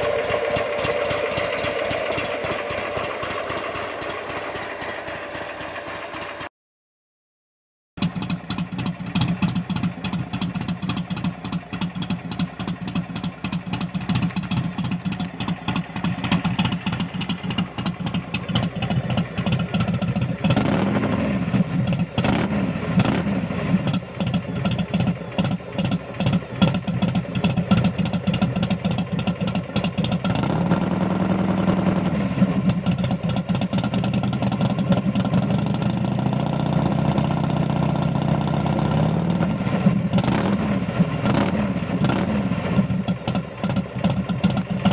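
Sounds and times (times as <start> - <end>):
motorcycle engine idling and revving: 0.0 - 6.5, 8.0 - 44.9.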